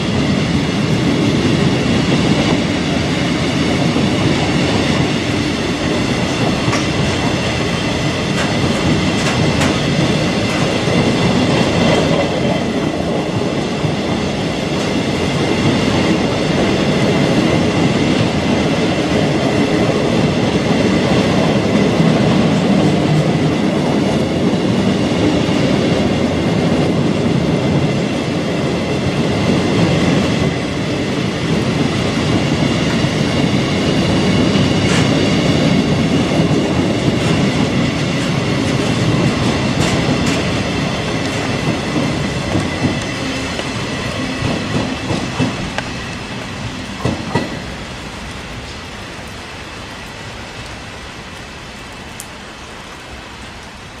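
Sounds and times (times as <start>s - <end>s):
freight train wheels rumbling and clacking: 0.0s - 53.8s.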